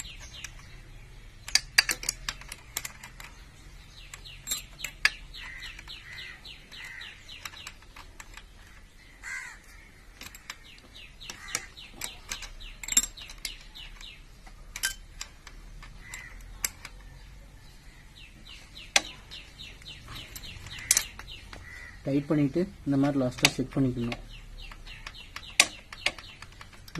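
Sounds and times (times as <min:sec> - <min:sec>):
metallic clicks of hand tools: 0:00.0 - 0:00.8, 0:01.4 - 0:08.9, 0:10.1 - 0:17.3, 0:18.8 - 0:21.7, 0:22.9 - 0:26.9
bird chirping: 0:00.0 - 0:26.9.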